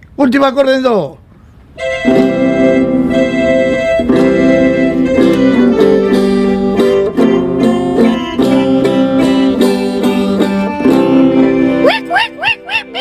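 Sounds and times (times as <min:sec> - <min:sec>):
held chords: 0:01.7 - 0:13.0
plucked string instrument: 0:01.8 - 0:13.0.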